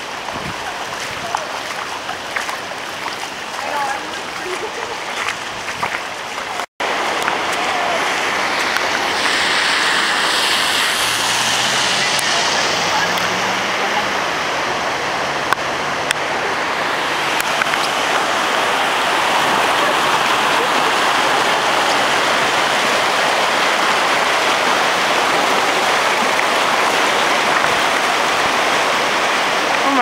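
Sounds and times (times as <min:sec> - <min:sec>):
rushing floodwater: 0:00.0 - 0:30.0.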